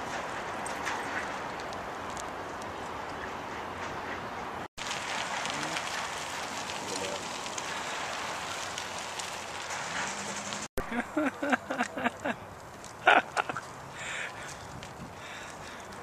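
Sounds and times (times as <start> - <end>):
crackling outdoor background noise: 0.0 - 16.0.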